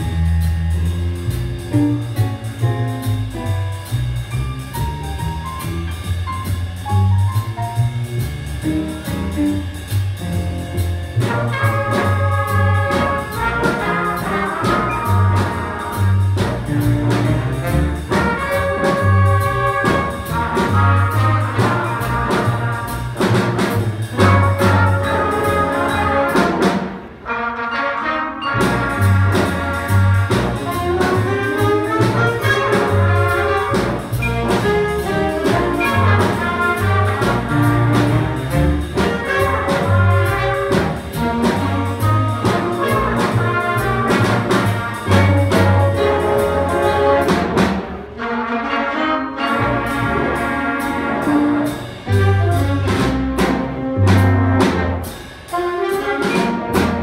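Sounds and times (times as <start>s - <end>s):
jazz big band playing: 0.0s - 57.0s.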